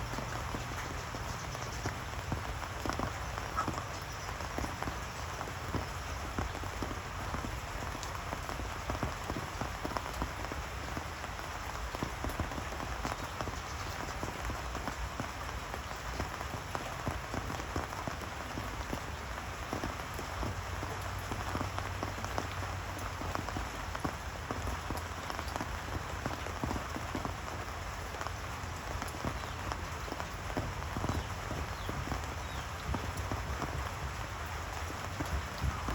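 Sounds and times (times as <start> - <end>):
rain falling on a surface: 0.0 - 35.9.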